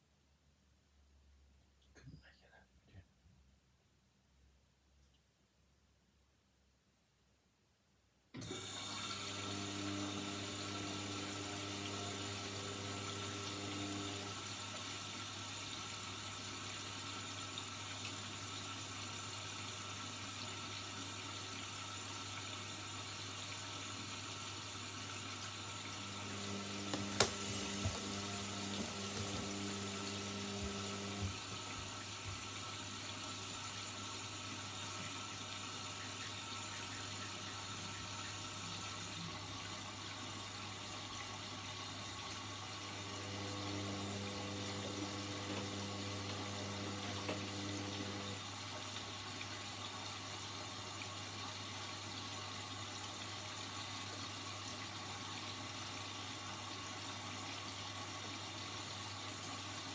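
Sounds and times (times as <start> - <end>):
water rushing into washing machine: 8.4 - 59.9.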